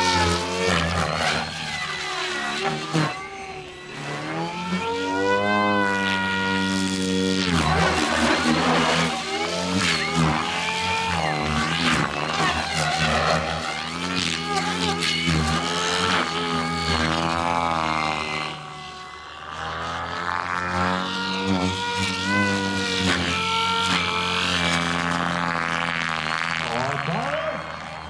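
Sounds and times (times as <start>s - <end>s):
rc helicopter rotor buzz: 0.0s - 28.0s.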